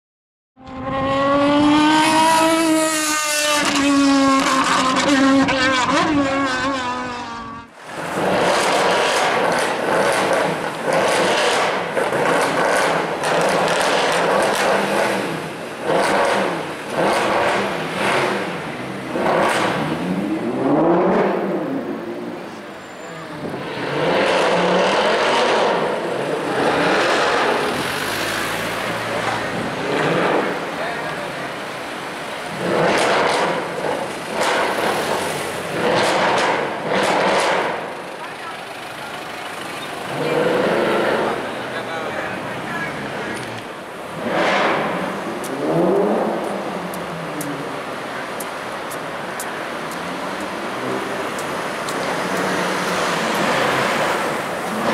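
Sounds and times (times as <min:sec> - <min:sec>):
car engine revving: 0:00.6 - 0:54.9
rough noisy engine: 0:03.5 - 0:54.9.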